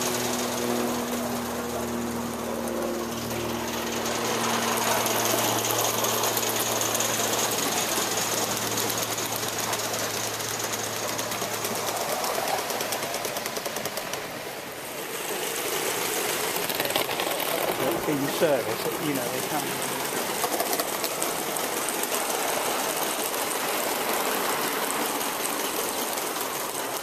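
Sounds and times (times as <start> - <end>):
model steam locomotive clattering: 0.0 - 27.0.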